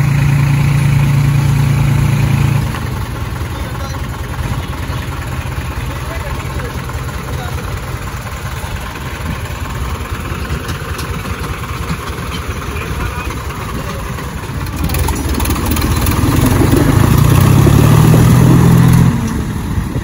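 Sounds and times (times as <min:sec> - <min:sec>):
diesel tractor engines under load: 0:00.0 - 0:20.0.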